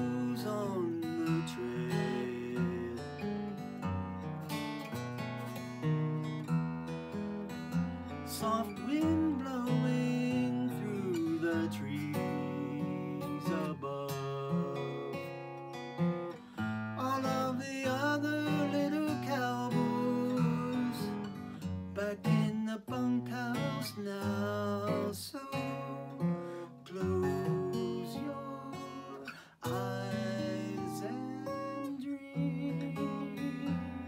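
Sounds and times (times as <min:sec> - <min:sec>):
acoustic guitar strumming and picking: 0:00.0 - 0:34.0.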